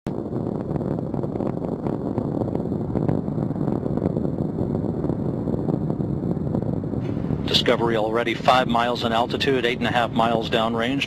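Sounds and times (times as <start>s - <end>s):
rocket engines rumbling: 0.1s - 11.0s.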